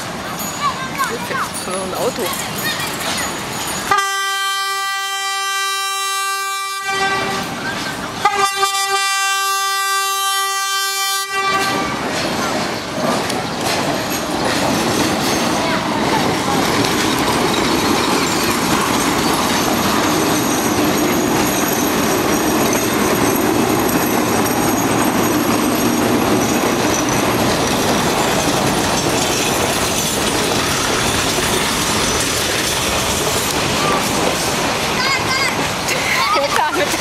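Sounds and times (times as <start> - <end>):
train rumble: 0.0 - 37.0
wheels rattling on rails: 0.0 - 37.0.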